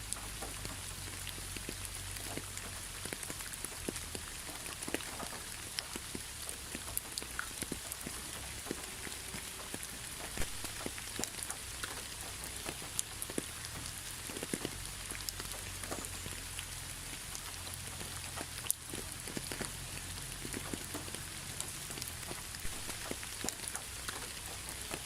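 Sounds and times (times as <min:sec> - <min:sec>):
rain hiss: 0:00.0 - 0:25.0
raindrops ticking on surface: 0:00.0 - 0:25.0.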